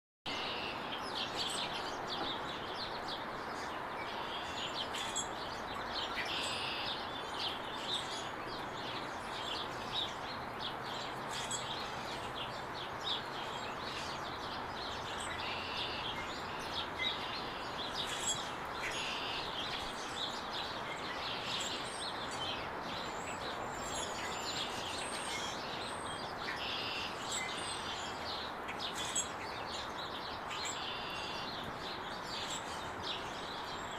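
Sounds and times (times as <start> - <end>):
small birds chirping: 0.3 - 33.9.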